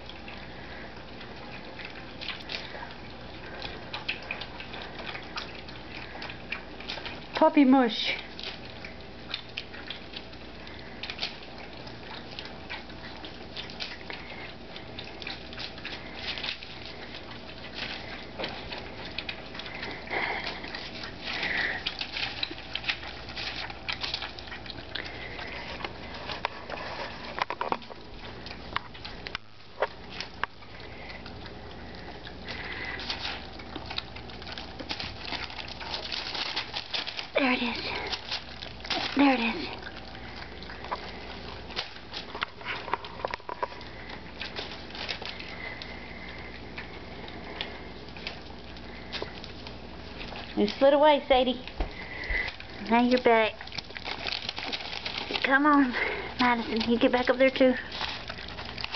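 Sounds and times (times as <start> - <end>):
puppies eating wet food: 0.0 - 58.9.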